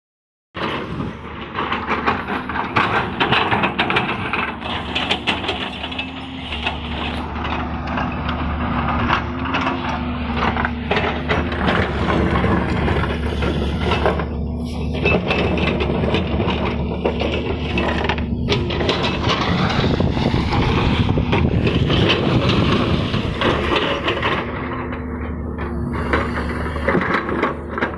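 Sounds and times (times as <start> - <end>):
bucket clatter and scraping: 0.6 - 27.9
excavator diesel engine: 0.6 - 27.9.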